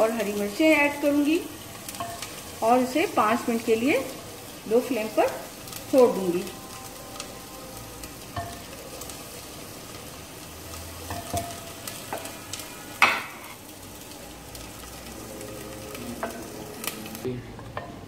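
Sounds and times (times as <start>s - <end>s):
spices sizzling in fat: 0.0s - 18.0s.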